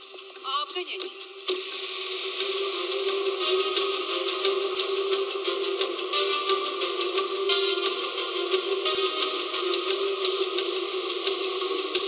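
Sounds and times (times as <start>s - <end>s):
hi-hat and cymbal beat: 0.0s - 12.0s.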